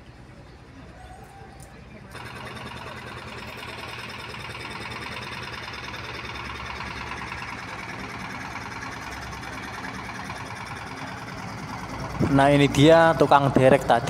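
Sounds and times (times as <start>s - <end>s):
boat engine idling: 1.8s - 14.0s.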